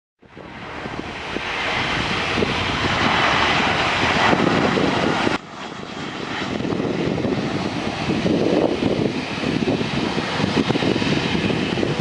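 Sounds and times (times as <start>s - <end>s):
jet airliner passing: 0.2s - 12.0s.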